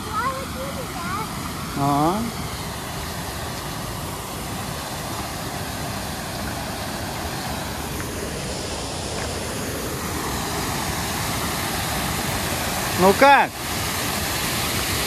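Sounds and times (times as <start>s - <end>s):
water rushing over waterfall: 0.0s - 15.0s.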